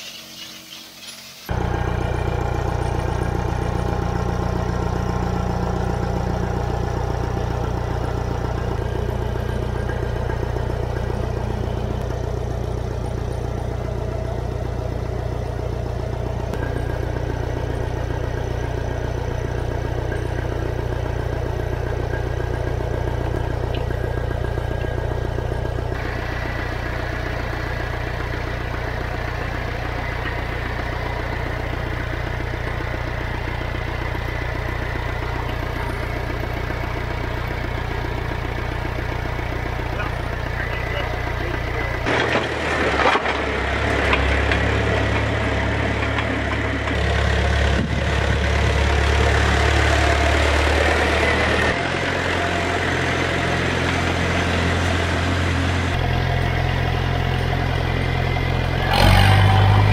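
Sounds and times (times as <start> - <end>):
tractor diesel engine idling: 1.5 - 59.9.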